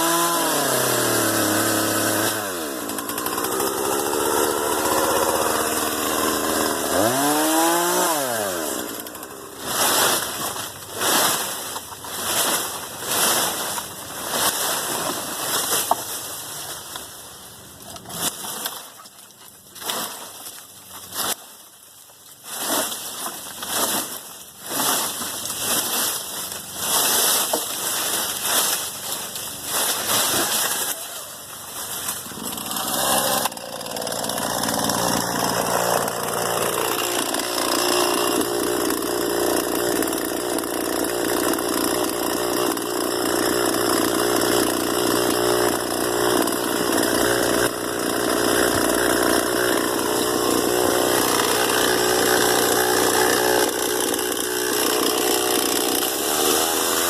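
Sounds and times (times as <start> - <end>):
chainsaw running: 0.0 - 18.9, 22.5 - 57.0.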